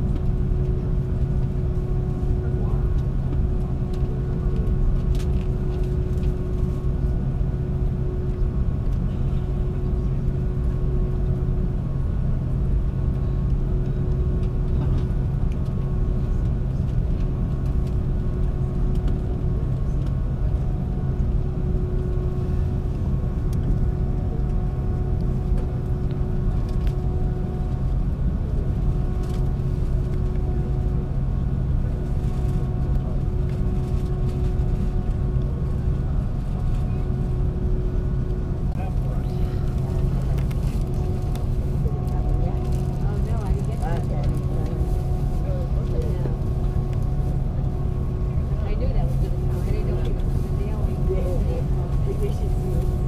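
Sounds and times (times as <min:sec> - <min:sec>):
cabin ventilation drone: 0:00.0 - 0:53.0.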